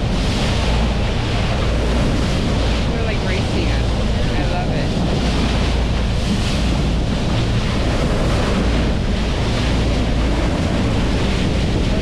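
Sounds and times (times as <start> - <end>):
water washing against boat: 0.0 - 12.0
wind buffeting microphone: 0.0 - 12.0.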